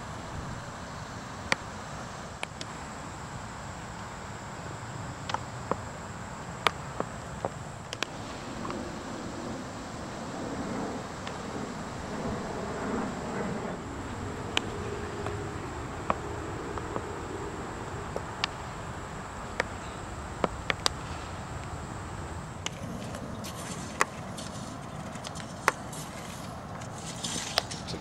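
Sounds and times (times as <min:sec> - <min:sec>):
high-pitched insect drone: 0:00.0 - 0:27.8.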